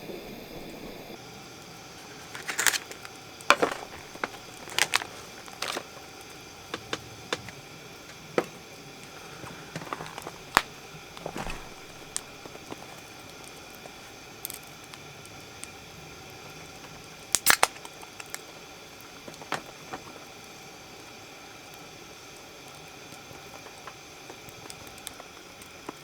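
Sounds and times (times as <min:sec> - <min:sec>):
campfire crackling and popping: 0:01.2 - 0:26.0.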